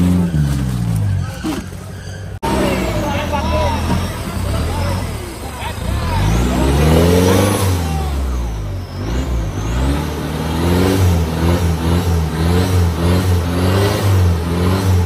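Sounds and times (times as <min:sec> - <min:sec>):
diesel engine revving hard: 0:00.0 - 0:15.0.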